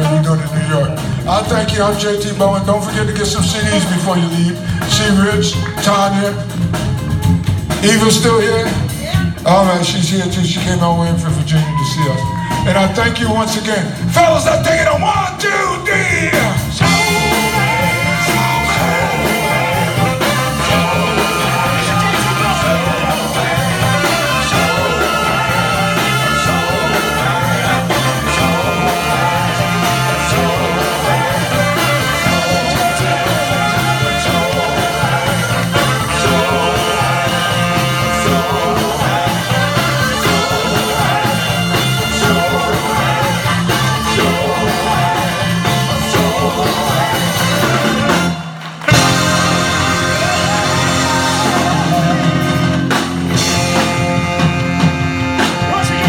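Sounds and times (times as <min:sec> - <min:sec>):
bass and drum beat: 0:00.0 - 0:56.0
live soul band playing: 0:00.0 - 0:56.0.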